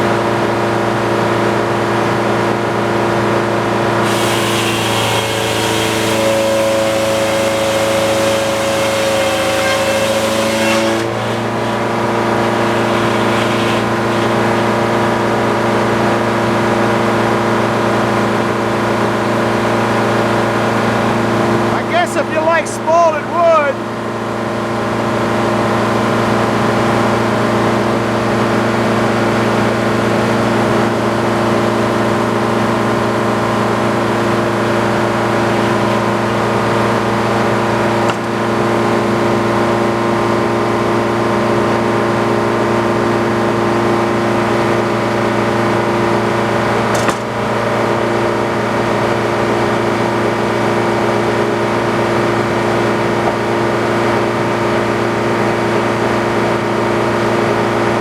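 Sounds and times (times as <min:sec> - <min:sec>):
sawmill running with loud hum: 0:00.0 - 0:58.0.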